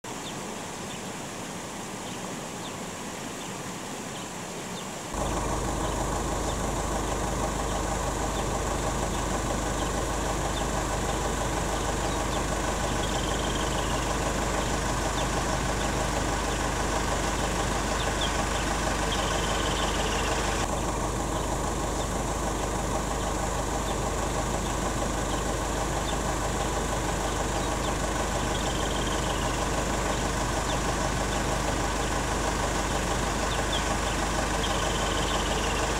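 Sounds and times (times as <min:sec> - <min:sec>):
faint bird chirps: 0:02.0 - 0:22.2, 0:23.0 - 0:35.9
vehicle engine idling: 0:04.7 - 0:35.9.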